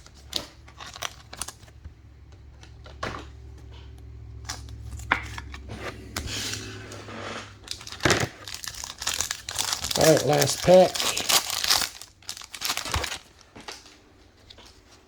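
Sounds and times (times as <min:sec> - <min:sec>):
cards rustling: 0:00.0 - 0:15.0
low electrical hum: 0:00.0 - 0:15.0.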